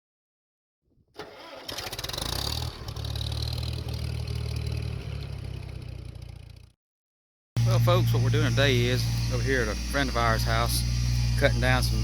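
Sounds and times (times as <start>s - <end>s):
engine starting and running: 1.2s - 6.8s, 7.6s - 12.0s.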